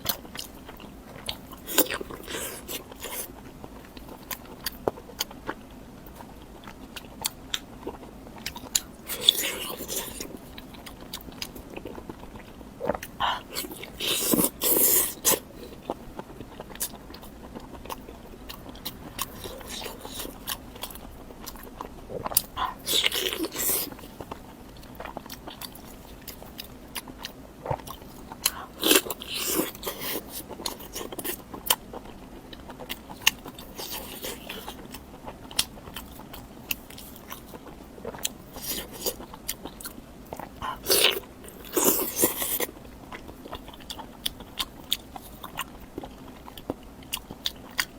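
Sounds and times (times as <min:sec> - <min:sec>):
person chewing crunchy food: 0:00.0 - 0:47.9.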